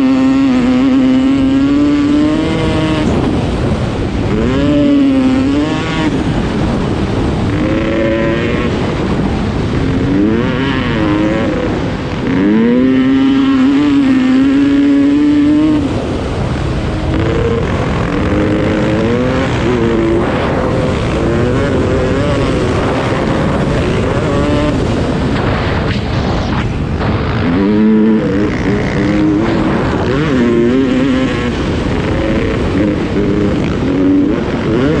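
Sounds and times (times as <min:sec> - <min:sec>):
dirt bike engine: 0:00.0 - 0:35.0.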